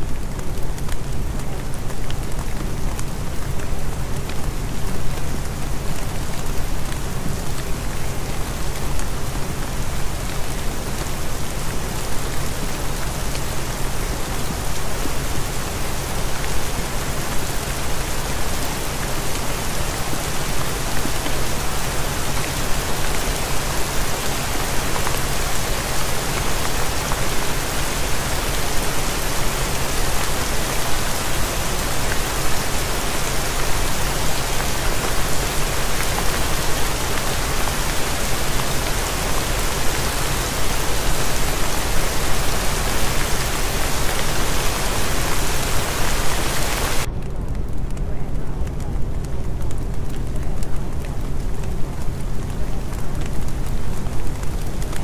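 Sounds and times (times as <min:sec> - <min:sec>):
rain-like hiss: 0:00.0 - 0:55.0.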